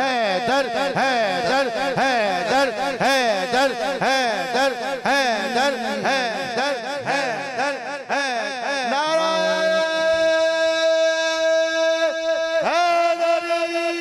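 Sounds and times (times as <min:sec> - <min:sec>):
man singing wordless melody: 0:00.0 - 0:14.0.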